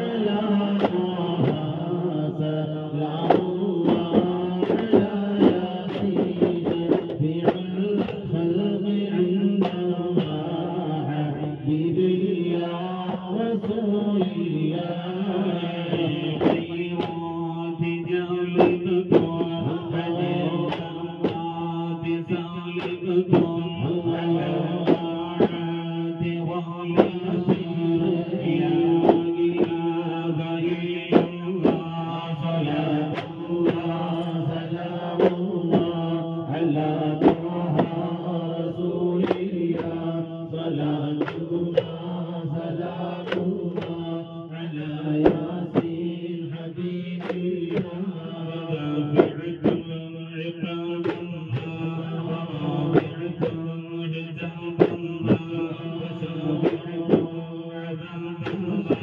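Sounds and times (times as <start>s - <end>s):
sharp percussive beats: 0.0s - 59.0s
voices chanting together: 0.0s - 59.0s.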